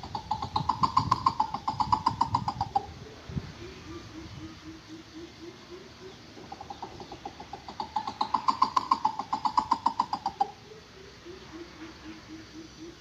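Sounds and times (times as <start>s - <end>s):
bird hooting rapidly: 0.0s - 13.0s
slow low hoots: 0.0s - 13.0s.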